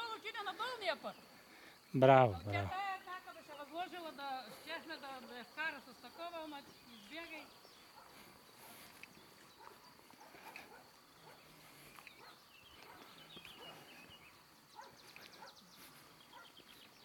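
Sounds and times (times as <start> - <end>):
faint chirps and ticks: 0.2 - 17.0.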